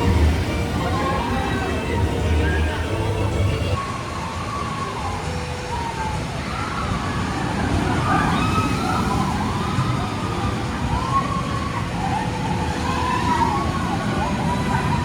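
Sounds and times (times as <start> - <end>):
people calling out and whooping: 0.0 - 3.8, 6.6 - 15.0.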